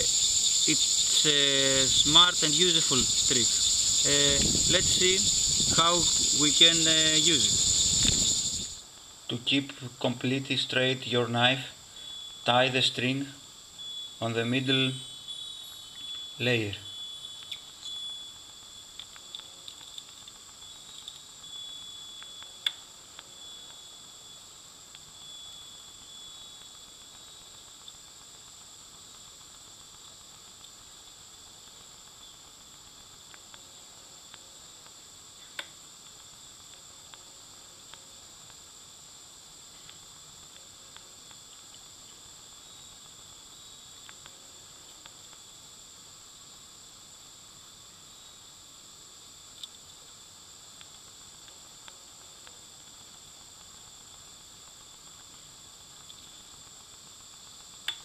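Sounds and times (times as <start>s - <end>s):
faint high-pitched hiss: 0.0s - 58.0s.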